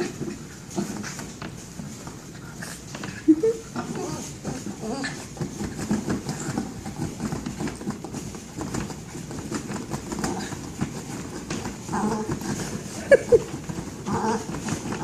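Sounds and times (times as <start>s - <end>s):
dog clawing and biting ball: 0.0s - 15.0s.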